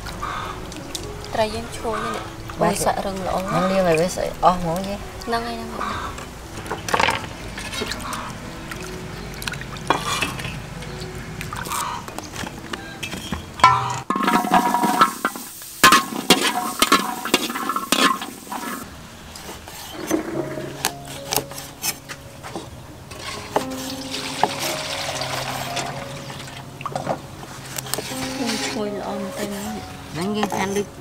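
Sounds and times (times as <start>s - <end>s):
soft background music: 0.0s - 31.0s.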